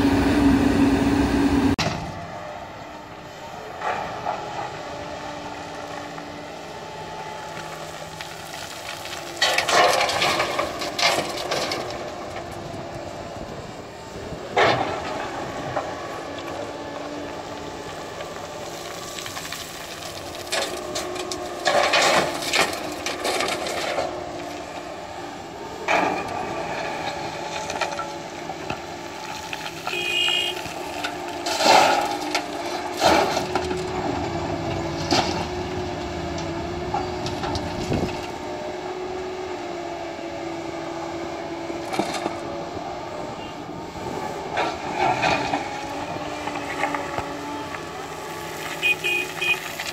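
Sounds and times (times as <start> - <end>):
excavator diesel engine running: 0.0 - 49.9
gravel crashing and clattering: 3.6 - 38.5, 41.7 - 42.7, 43.9 - 49.9.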